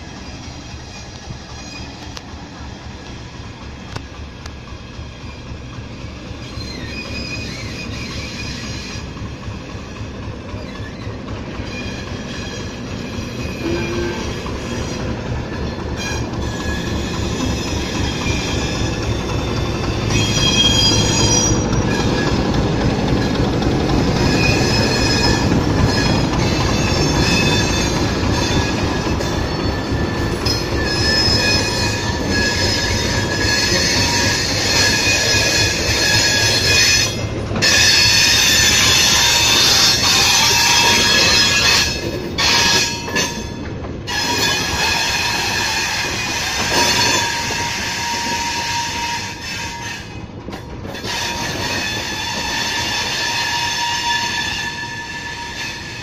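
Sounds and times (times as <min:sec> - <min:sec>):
diesel locomotive engine rumbling: 0:00.0 - 0:56.0
wheels squealing on rails: 0:00.0 - 0:56.0.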